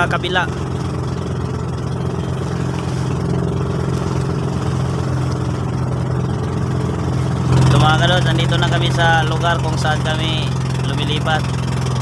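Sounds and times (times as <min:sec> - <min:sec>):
boat engine drone: 0:00.0 - 0:12.0
water and wind hiss: 0:00.0 - 0:12.0.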